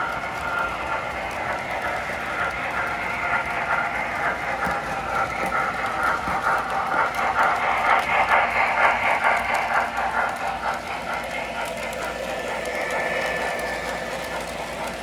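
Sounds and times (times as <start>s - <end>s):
model train rattling on track: 0.0s - 15.0s
rapid even pulsing: 0.0s - 15.0s.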